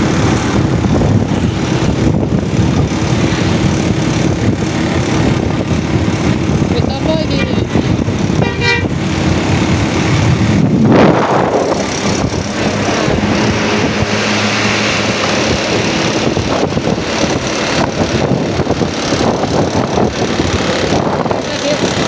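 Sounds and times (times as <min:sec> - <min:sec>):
traffic engine drone: 0:00.0 - 0:22.0
vehicle passing close by: 0:00.0 - 0:22.0.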